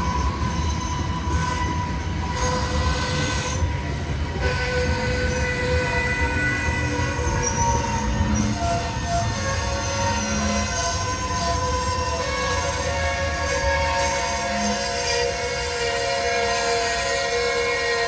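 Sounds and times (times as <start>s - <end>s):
freight train cars rumbling: 0.0s - 18.0s
wheel squeals: 0.0s - 18.0s.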